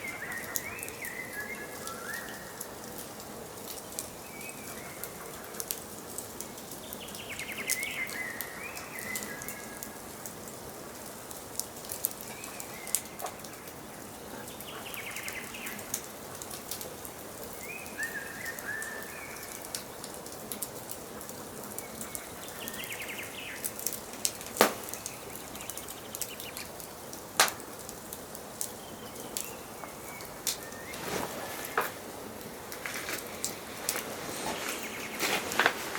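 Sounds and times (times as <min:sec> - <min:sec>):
wood fire crackling and popping: 0:00.0 - 0:14.8, 0:15.6 - 0:35.9
songbirds chirping: 0:00.0 - 0:35.9.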